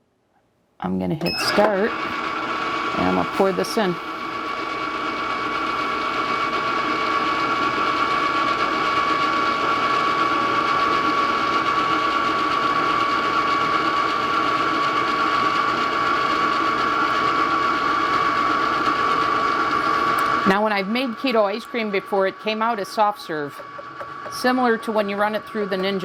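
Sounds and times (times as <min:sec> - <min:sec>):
ice cream maker motor humming: 0:01.3 - 0:26.0.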